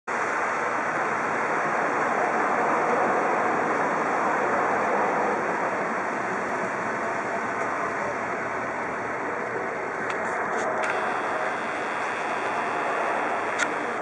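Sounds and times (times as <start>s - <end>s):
tyres hissing on wet road: 0.1s - 14.0s.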